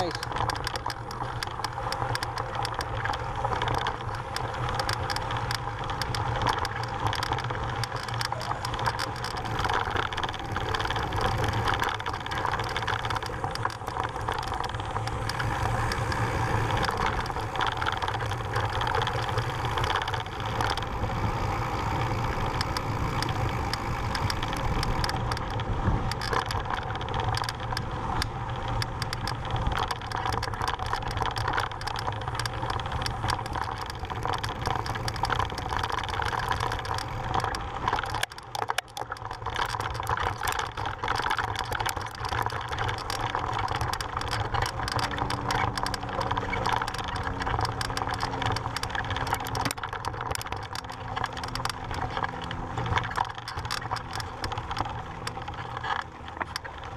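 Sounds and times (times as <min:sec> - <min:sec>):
bike clicking and rattling: 0:00.0 - 0:56.9
bike tyres crunching on gravel: 0:00.0 - 0:56.9.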